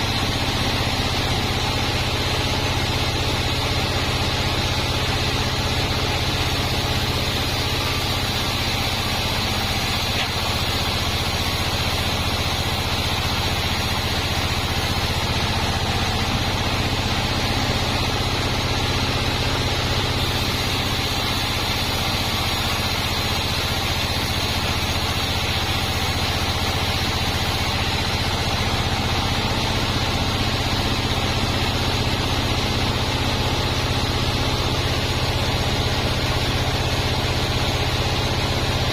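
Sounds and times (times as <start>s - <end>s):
bandsaw machine humming and whining: 0.0s - 38.9s.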